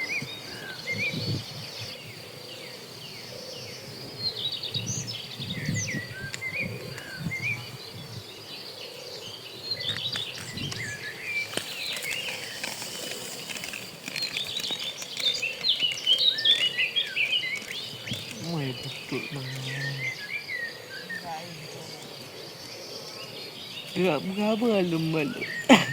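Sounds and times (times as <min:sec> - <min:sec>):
high insect drone: 0:00.0 - 0:25.9
small birds chirping: 0:00.0 - 0:25.9.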